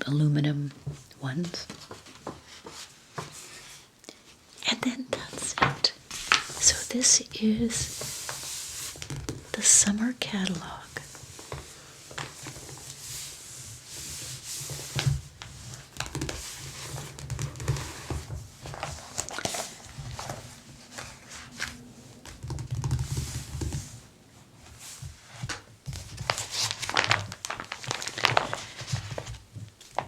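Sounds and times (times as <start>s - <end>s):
paper pages rustling and crinkling: 0.8s - 3.9s, 5.2s - 9.6s, 10.3s - 30.0s.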